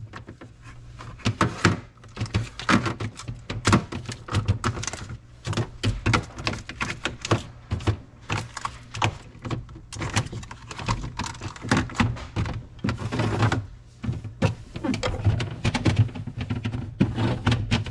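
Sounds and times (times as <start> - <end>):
objects knocking and clacking: 0.0 - 17.9.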